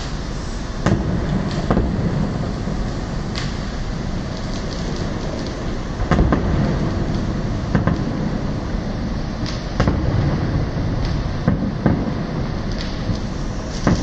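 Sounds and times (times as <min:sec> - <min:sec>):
fireworks bangs: 0:00.0 - 0:14.0
low rumble: 0:00.0 - 0:14.0.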